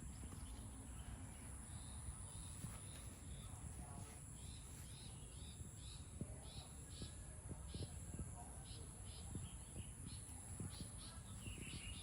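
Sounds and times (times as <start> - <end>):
songbirds chirping faintly: 0.0 - 12.0.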